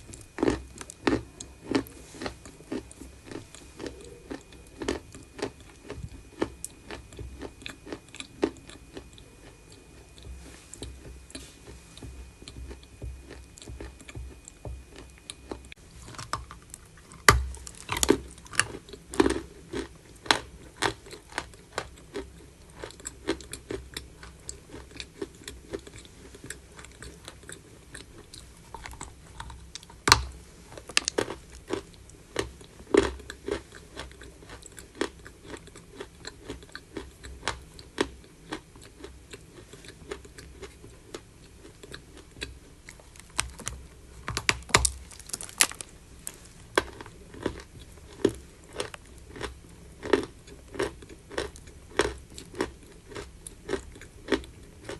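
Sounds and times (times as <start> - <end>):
chalk being chewed and crunched: 0.0 - 30.0, 30.7 - 54.9.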